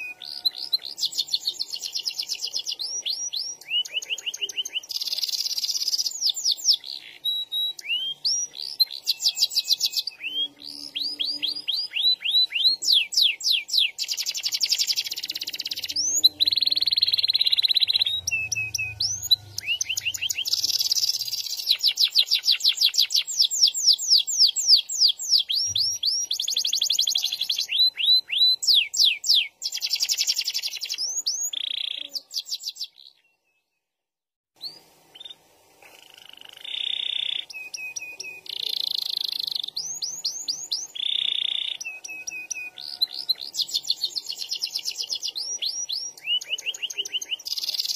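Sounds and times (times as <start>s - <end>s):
canary singing trills: 0.0s - 33.8s, 34.6s - 47.9s.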